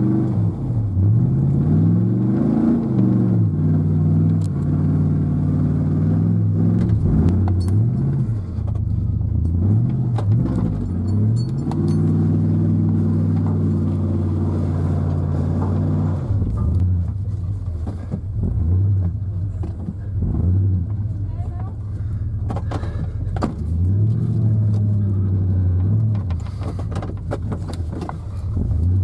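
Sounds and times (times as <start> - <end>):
truck engine revving hard: 0.0 - 17.2, 18.4 - 21.1, 22.6 - 26.6.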